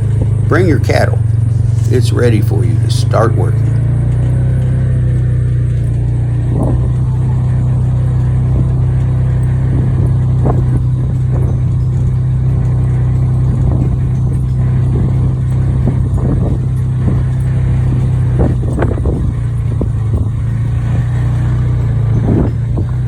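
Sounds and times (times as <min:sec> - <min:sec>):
short rattles: 0:00.0 - 0:23.0
utility vehicle engine droning: 0:00.0 - 0:23.0.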